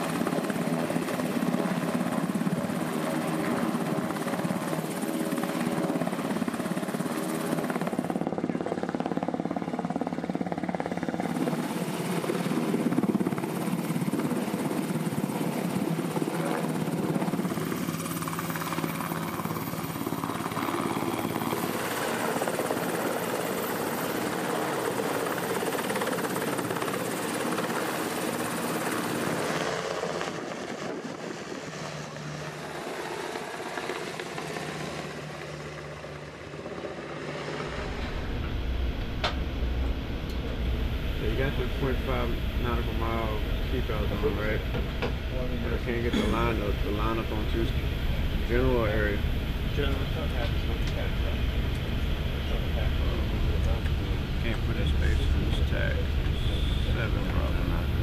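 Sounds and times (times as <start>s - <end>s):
helicopter rotor and turbine: 0.0s - 58.0s.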